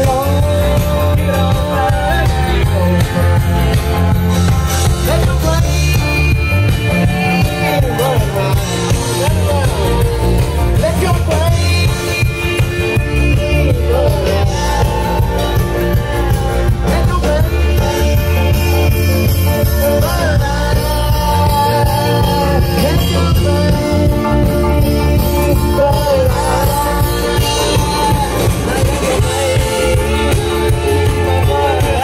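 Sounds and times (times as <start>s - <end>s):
lead singer singing: 0.0s - 32.0s
live band playing: 0.0s - 32.0s
steady bass line: 0.0s - 32.0s.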